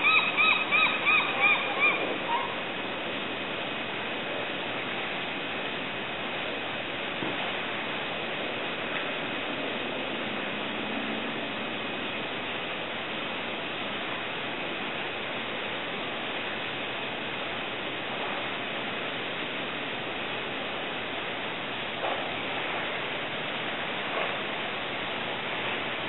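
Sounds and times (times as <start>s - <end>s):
faint high-pitched whine: 0.0s - 26.0s
steady background hiss: 0.0s - 26.0s.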